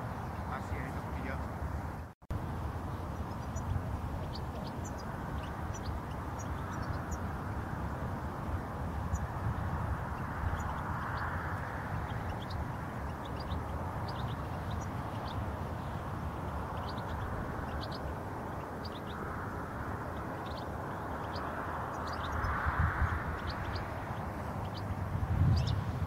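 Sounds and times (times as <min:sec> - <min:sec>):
goldfinches chirping: 0:02.8 - 0:26.0.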